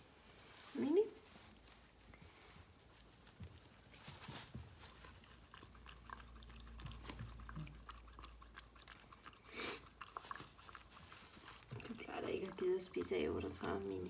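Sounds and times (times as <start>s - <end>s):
dogs licking and lapping: 1.9s - 14.0s.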